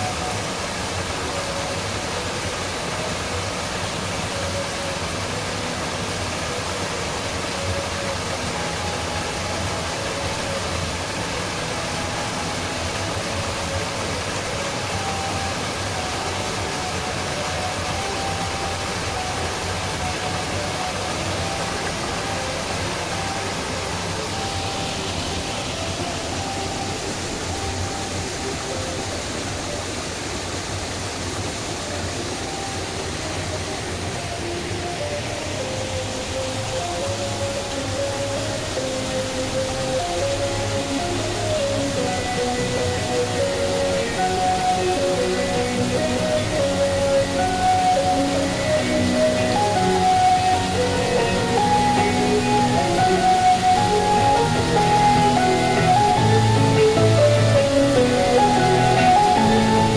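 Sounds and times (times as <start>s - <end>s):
waterfall splashing over rocks: 0.0s - 59.9s.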